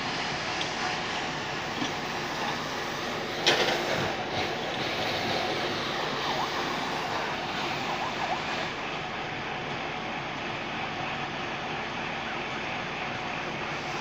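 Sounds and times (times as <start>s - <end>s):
fire engine running: 0.0s - 14.0s.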